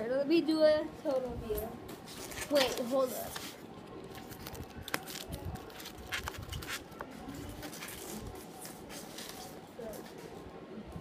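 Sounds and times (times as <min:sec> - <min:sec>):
clicks and rustling of objects handled: 0:01.1 - 0:10.4.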